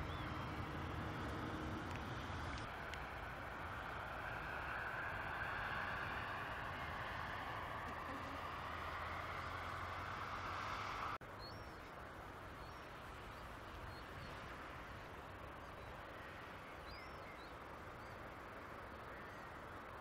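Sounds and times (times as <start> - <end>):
faint outdoor background hiss: 0.0 - 20.0.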